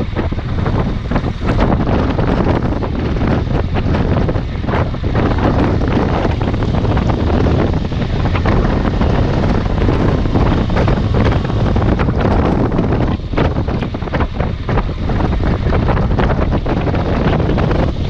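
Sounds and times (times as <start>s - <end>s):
motorcycle engine drone: 0.0s - 18.0s
wind buffeting microphone: 0.0s - 18.0s.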